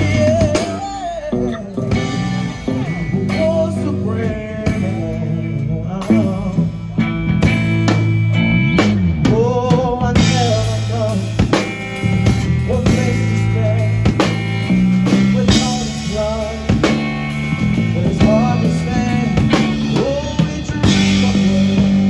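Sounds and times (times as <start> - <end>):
drum kit: 0.0 - 22.0
rock music: 0.0 - 22.0
steady bass: 0.0 - 22.0.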